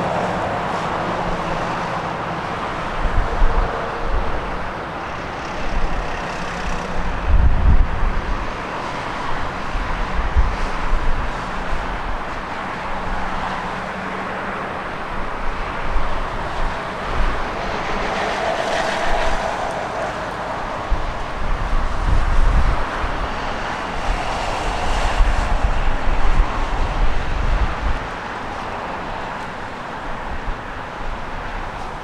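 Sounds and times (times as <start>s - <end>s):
jet engines rushing: 0.0s - 30.4s
wind buffeting microphone: 0.0s - 32.0s.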